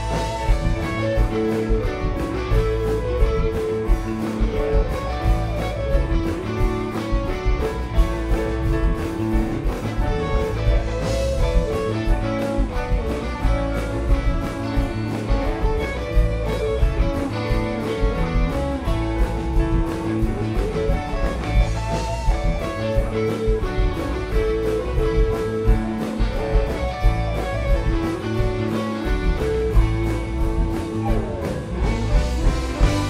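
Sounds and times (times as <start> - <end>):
electric guitar lead: 0.0 - 33.0
rock band playing: 0.0 - 33.0.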